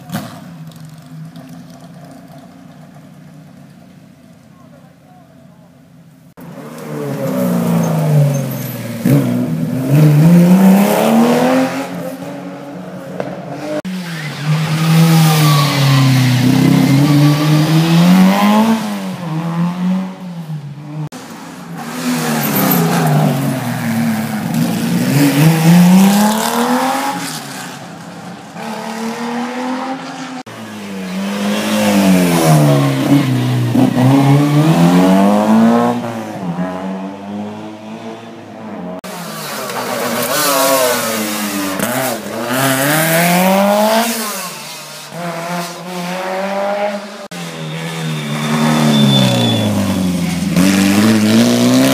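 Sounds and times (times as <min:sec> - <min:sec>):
rally car engines at full throttle: 0:06.4 - 0:51.9.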